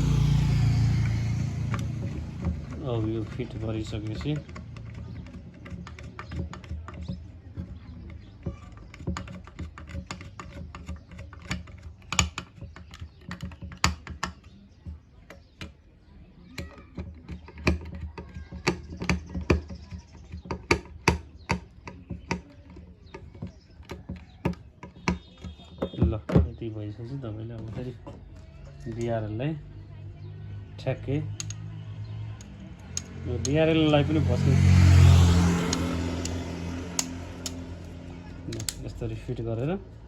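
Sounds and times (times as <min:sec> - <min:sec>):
plastic and metal parts clicking: 0:01.0 - 0:15.8, 0:16.5 - 0:26.6, 0:31.2 - 0:33.8, 0:35.0 - 0:39.8.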